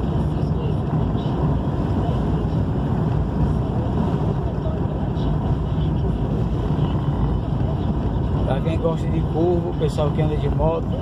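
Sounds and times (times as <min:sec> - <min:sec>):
vehicle driving on road: 0:00.0 - 0:11.0.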